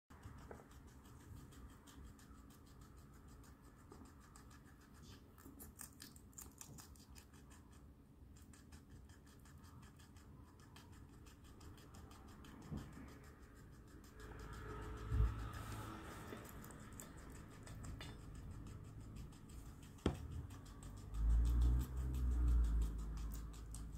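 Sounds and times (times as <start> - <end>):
guinea pig chewing: 0.1 - 23.9.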